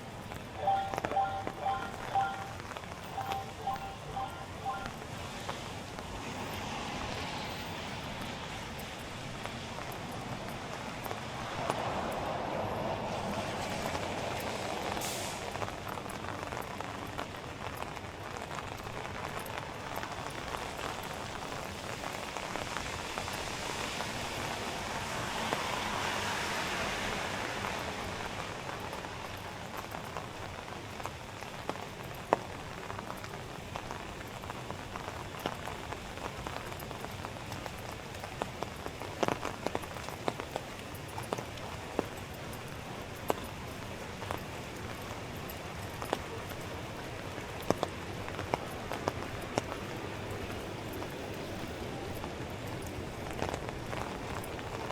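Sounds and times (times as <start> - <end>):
rain falling on street: 0.0 - 54.9.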